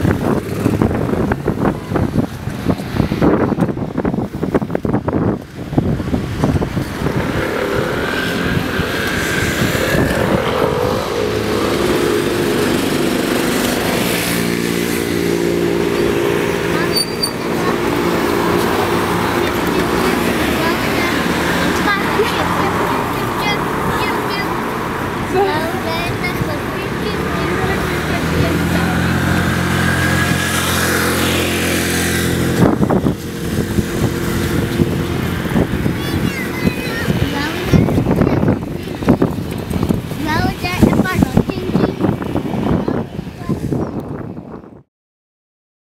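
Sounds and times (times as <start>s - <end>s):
engine running: 0.0s - 42.8s
wind buffeting microphone: 0.0s - 44.9s.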